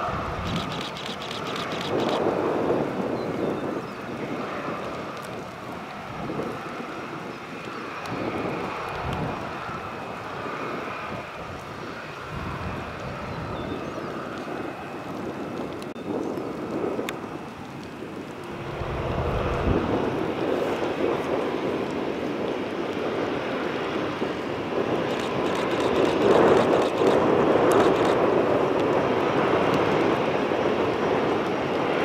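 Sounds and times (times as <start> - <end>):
airliner engines whining: 0.0 - 32.0
wind gusting on microphone: 0.0 - 32.0.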